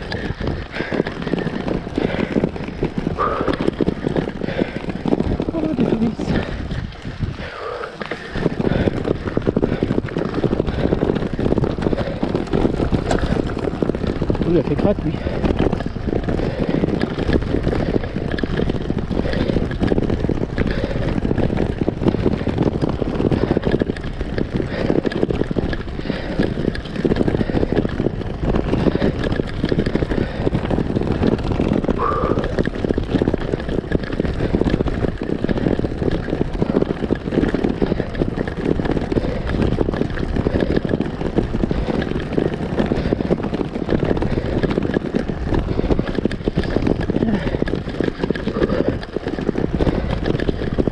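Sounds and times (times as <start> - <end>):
bike rattling over cobblestones: 0.0 - 50.9.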